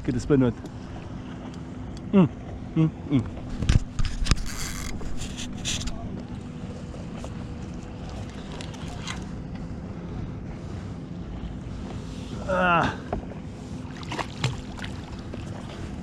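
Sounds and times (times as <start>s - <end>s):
sea water around kayak: 0.0s - 16.0s.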